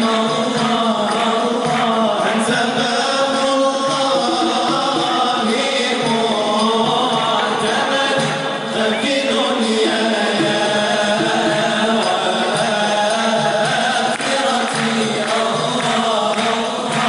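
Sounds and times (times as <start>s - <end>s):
men singing devotional chant: 0.0s - 17.0s.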